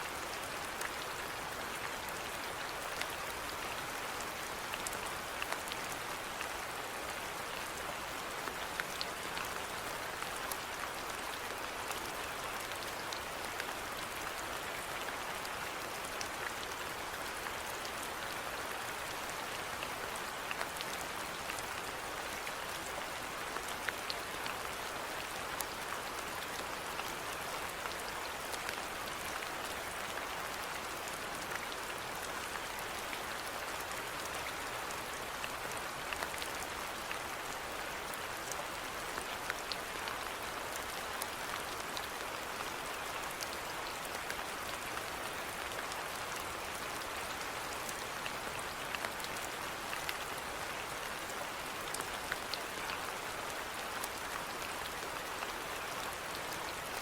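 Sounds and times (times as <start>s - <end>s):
raindrops ticking on surfaces: 0.1s - 57.0s.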